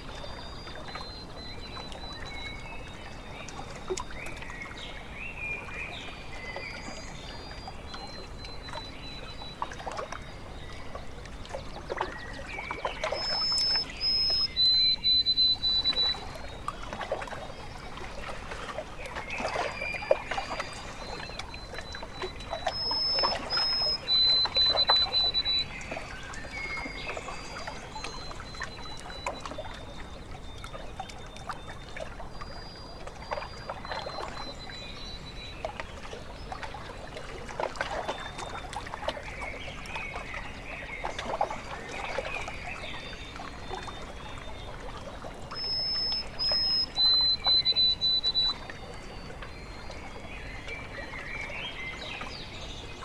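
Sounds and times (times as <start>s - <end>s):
bird singing: 0.0s - 18.0s, 19.0s - 53.0s
small waves lapping on shore: 0.0s - 53.0s.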